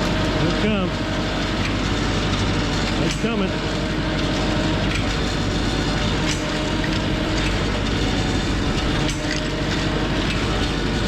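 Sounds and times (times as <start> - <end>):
diesel engine running: 0.0 - 11.0
winch reeling in cable: 1.1 - 11.0.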